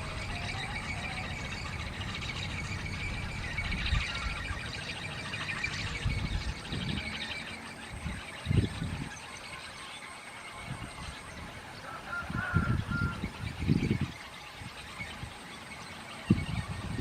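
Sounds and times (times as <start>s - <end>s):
wind rumble on microphone: 0.0s - 9.9s, 10.5s - 17.0s
wind spinner whirring: 0.0s - 17.0s.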